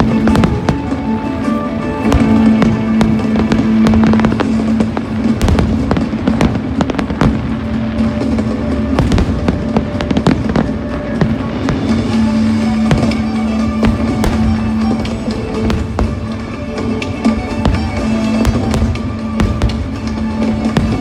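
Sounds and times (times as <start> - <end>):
fireworks bangs and crackles: 0.0 - 21.0
show music: 0.0 - 21.0.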